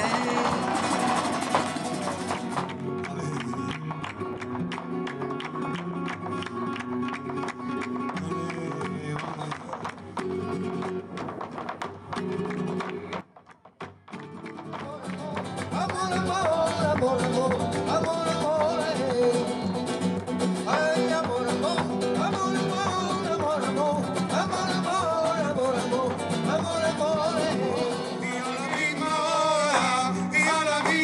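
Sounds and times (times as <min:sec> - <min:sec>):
acoustic guitar: 0:00.0 - 0:31.0
rhythmic hand clapping: 0:00.0 - 0:31.0.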